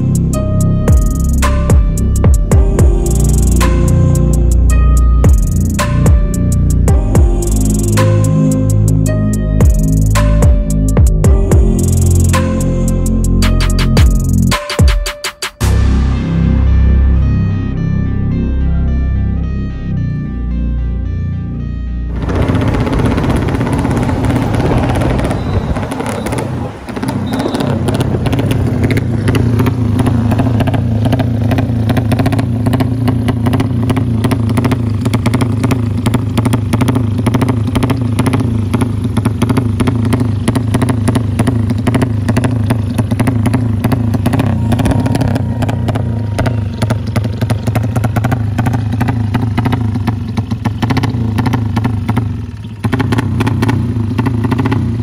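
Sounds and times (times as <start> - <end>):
motorcycle engine running hard: 0.0 - 14.6, 22.1 - 55.0.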